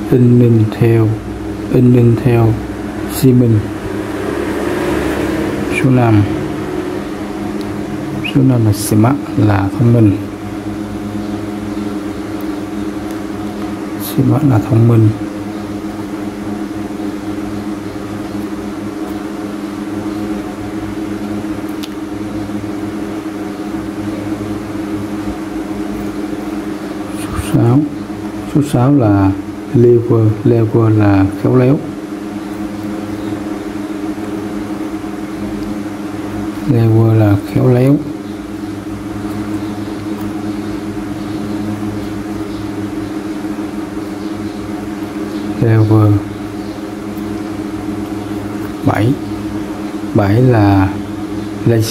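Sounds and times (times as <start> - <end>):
steady mechanical hum: 0.0 - 51.9.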